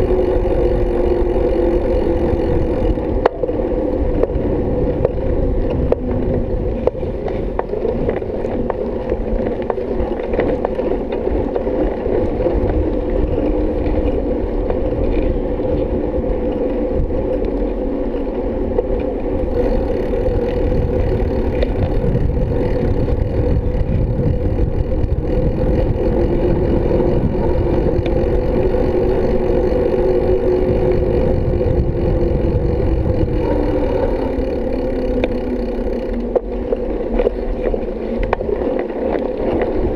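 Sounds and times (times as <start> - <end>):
bike rolling on paved road: 0.0 - 39.9.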